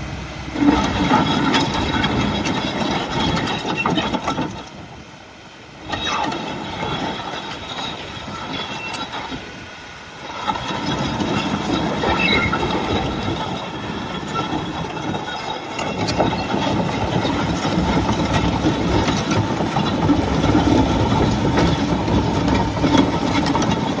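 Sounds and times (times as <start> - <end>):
diesel engine: 0.0 - 24.0
steel tracks clattering: 0.0 - 24.0.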